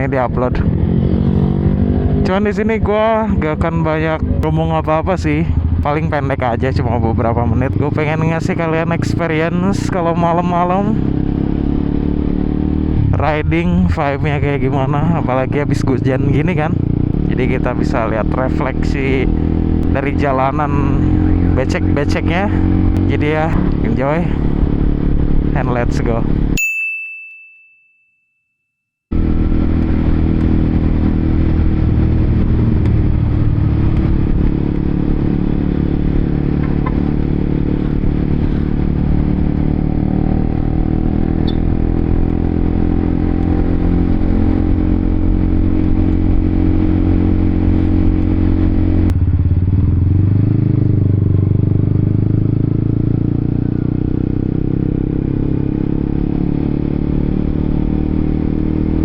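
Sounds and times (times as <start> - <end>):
motorcycle engine running: 0.0 - 26.6, 29.1 - 59.0
road and wind noise: 0.0 - 26.6, 29.1 - 59.0.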